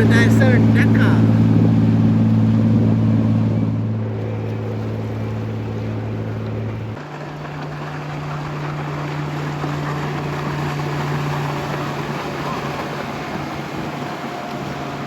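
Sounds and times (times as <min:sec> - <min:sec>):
motorboat engine humming: 0:00.0 - 0:15.0
water and wind rushing: 0:00.0 - 0:15.0.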